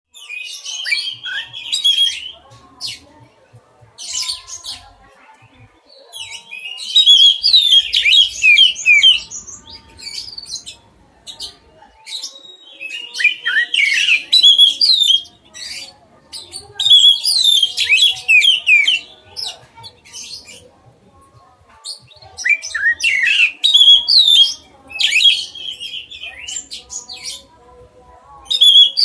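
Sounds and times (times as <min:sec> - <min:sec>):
songbird singing: 0:00.1 - 0:03.2, 0:03.9 - 0:29.0.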